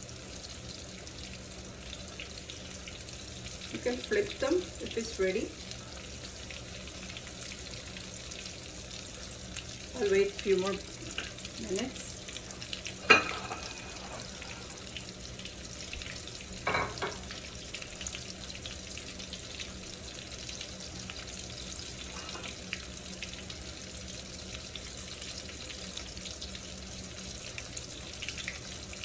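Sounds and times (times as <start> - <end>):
food sizzling in oil: 0.0 - 29.0.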